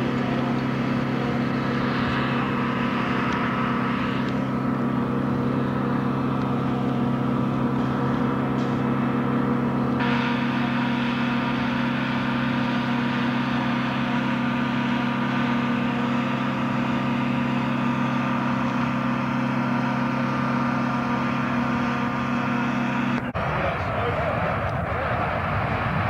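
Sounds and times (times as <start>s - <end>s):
generator humming: 0.0s - 26.0s.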